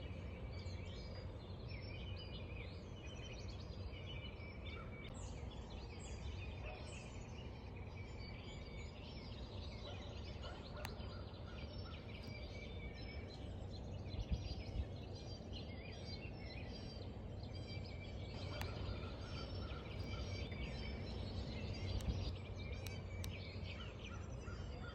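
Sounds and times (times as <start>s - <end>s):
birds chirping and trilling: 0.0s - 24.9s
steady low rumble: 0.0s - 24.9s.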